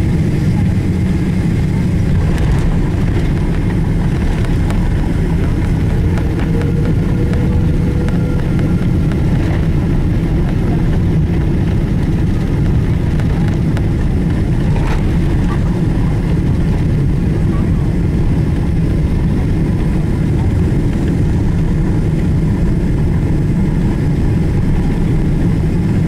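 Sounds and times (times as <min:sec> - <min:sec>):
airliner cabin rumble on landing: 0:00.0 - 0:26.0.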